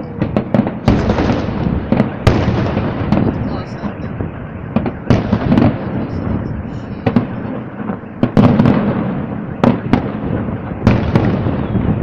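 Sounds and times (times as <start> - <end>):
fireworks rumble: 0.0 - 12.0
fireworks sharp bangs: 0.0 - 12.0.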